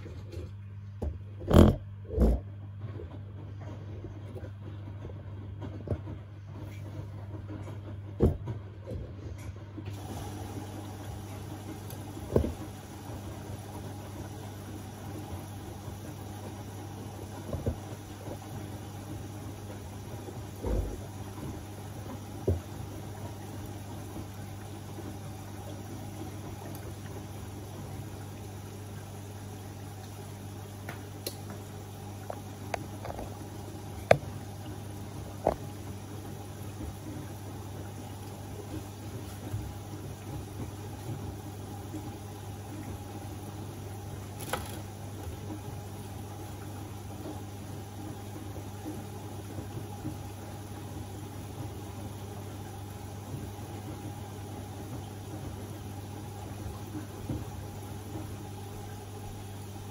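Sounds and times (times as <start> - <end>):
washing machine filling with water: 0.0 - 59.9.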